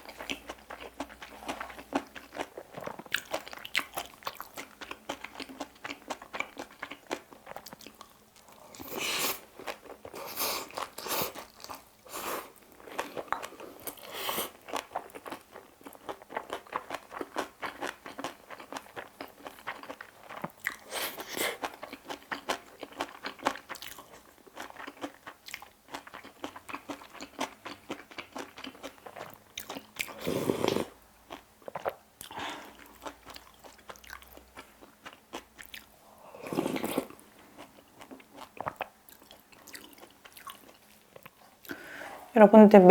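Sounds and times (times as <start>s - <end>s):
person chewing crunchy food: 0.0s - 42.0s.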